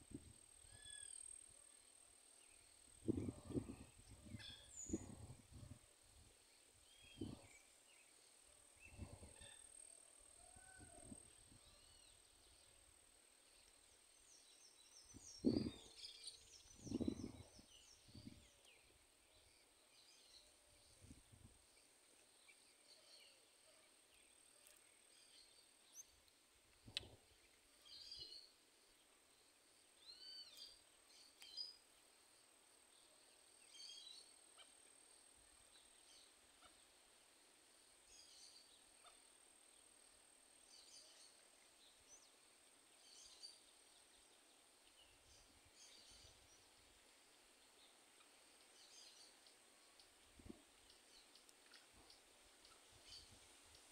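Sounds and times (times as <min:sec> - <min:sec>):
faint high-pitched whine: 0:00.0 - 0:53.9.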